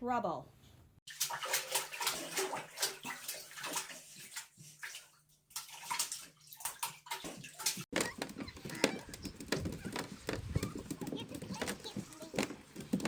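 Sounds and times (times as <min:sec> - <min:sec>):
water splashing and sloshing: 0:01.0 - 0:13.0.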